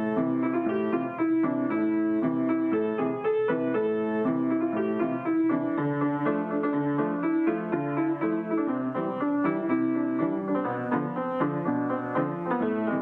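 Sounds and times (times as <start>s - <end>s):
solo piano playing: 0.0s - 13.0s.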